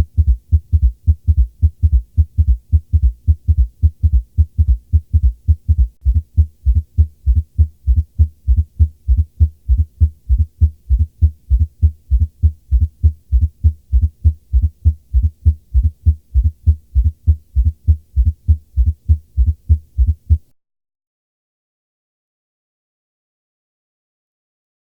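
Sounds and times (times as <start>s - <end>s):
heartbeat thumps: 0.0s - 20.5s.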